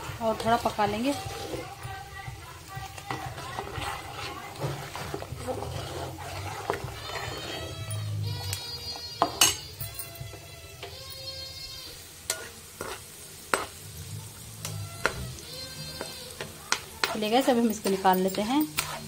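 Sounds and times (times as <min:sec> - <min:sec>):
squeaky spatula scrapes: 0:00.0 - 0:13.7, 0:14.3 - 0:19.0
frying sizzling in a pan: 0:00.0 - 0:19.0.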